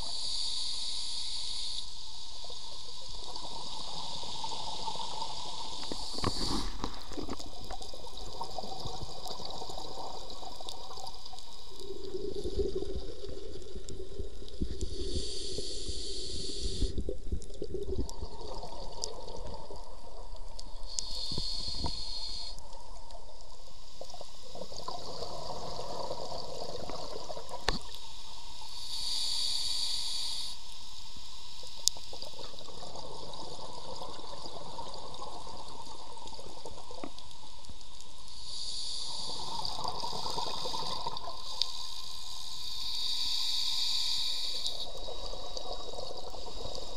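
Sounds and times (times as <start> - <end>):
regulator hissing air and bubbling: 0.0 - 20.0, 20.6 - 22.7, 23.6 - 30.8, 38.3 - 46.9.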